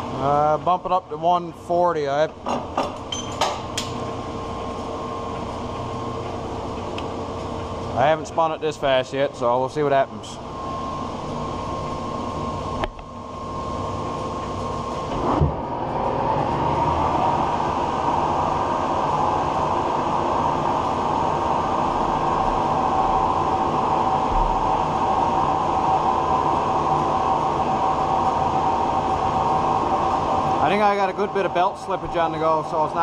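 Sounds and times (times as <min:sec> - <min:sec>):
metal lathe running: 0:00.0 - 0:33.0.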